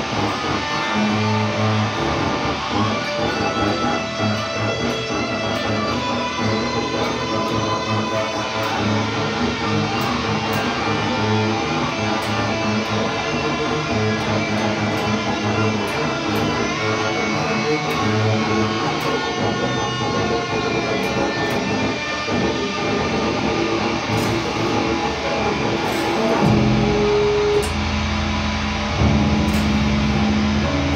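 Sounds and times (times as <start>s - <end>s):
bass guitar notes: 0.0s - 30.9s
electric guitar notes: 0.0s - 30.9s.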